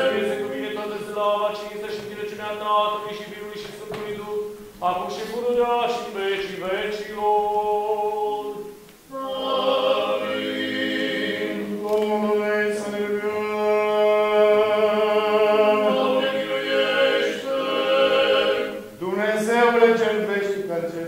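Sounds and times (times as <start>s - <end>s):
choir chanting held notes: 0.0s - 20.2s.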